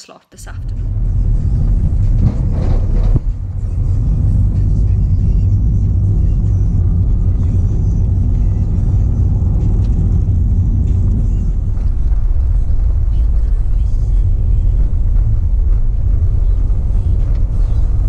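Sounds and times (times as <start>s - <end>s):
car engine and tyre rumble: 0.6s - 18.0s.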